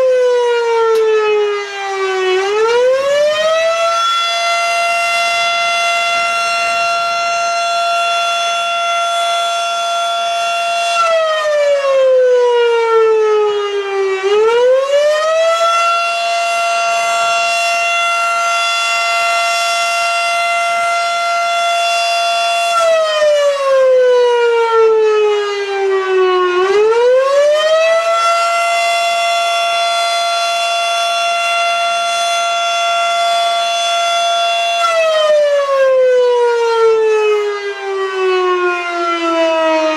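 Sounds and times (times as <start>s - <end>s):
mechanical fire siren wailing: 0.0s - 39.9s.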